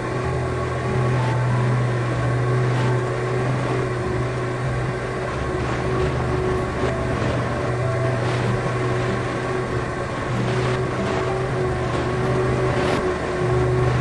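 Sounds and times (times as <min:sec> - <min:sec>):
ceiling fan motor humming: 0:00.0 - 0:14.0.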